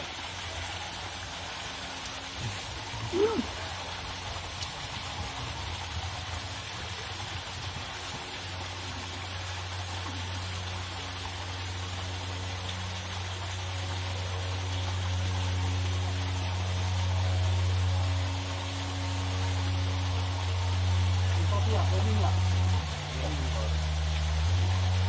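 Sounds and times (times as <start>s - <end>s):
low steady hum: 0.0s - 25.0s
water-like rushing hiss: 0.0s - 25.0s.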